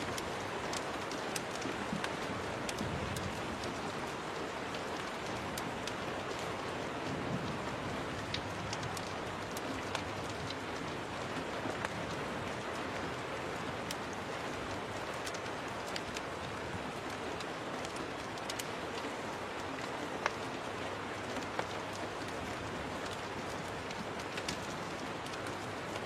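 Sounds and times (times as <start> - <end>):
fire crackling: 0.0 - 26.0
steady rain: 0.0 - 26.0.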